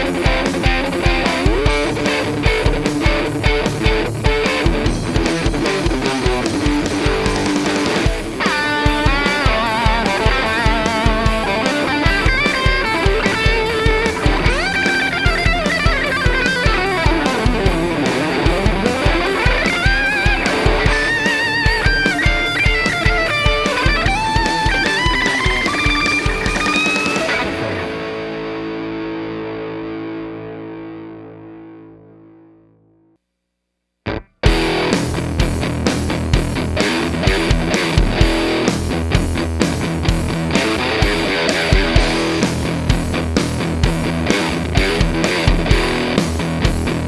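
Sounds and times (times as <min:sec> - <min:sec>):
backing track with kick drum: 0:00.0 - 0:27.7, 0:34.2 - 0:47.0
overdriven electric guitar lead: 0:00.0 - 0:32.9, 0:34.1 - 0:47.0.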